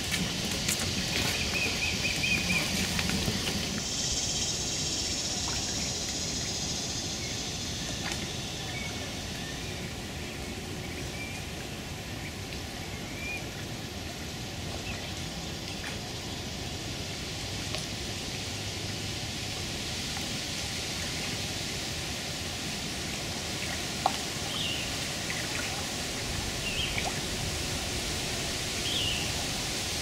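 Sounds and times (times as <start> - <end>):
high hiss: 0.0 - 30.0
outdoor background noise: 0.0 - 30.0.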